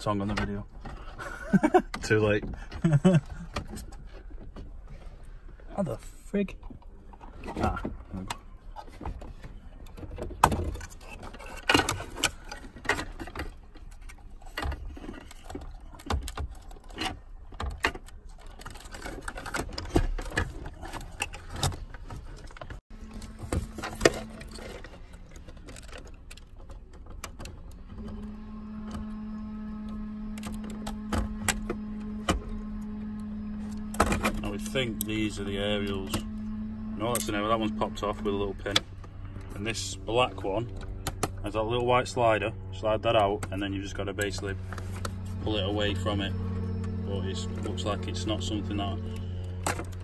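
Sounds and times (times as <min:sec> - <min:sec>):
low hum with overtones: 0:00.0 - 0:50.0.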